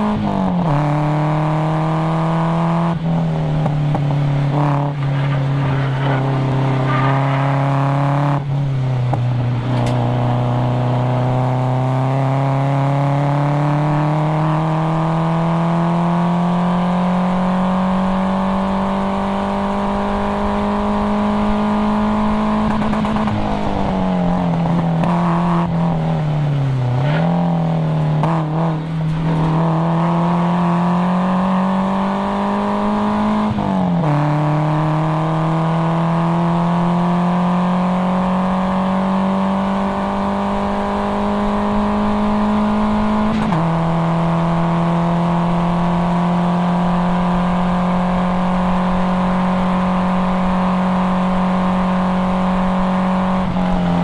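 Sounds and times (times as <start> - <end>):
car engine revving hard: 0.0 - 54.0.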